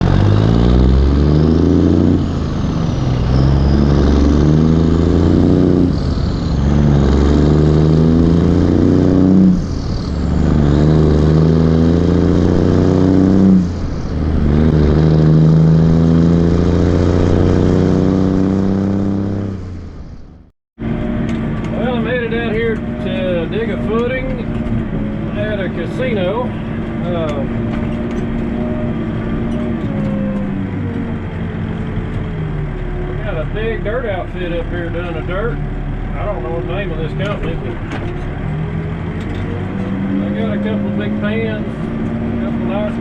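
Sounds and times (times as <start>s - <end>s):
backhoe diesel engine working: 0.0s - 17.8s, 19.6s - 43.0s.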